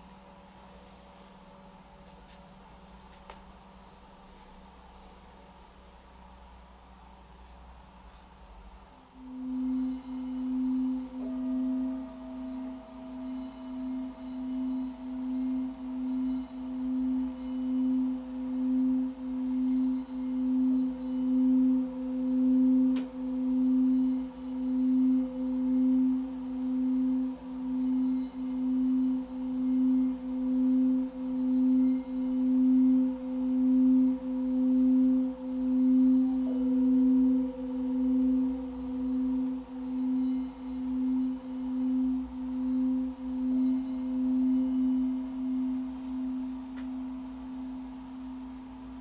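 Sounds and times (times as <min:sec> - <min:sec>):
singing bowl humming: 0:00.0 - 0:49.0
mallet circling bowl rim: 0:06.8 - 0:49.0.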